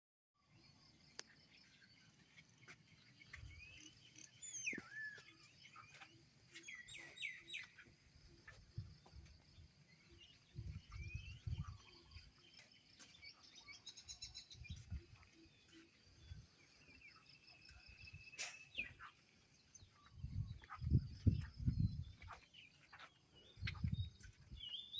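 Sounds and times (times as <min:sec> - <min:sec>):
birds chirping: 0:00.4 - 0:24.9.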